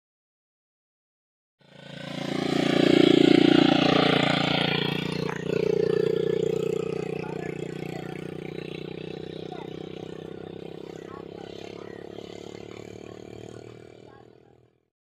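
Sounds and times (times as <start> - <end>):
quad bike engine running: 1.6 - 14.9.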